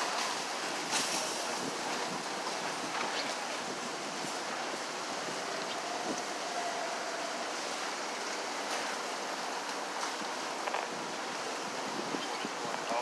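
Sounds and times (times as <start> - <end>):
wind hiss: 0.0 - 13.0.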